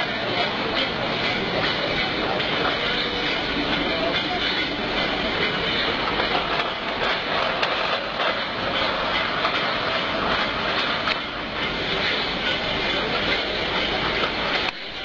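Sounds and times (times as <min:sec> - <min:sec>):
crates rattling on roller conveyor: 0:00.0 - 0:15.0
rollers and bottles clicking: 0:00.0 - 0:15.0.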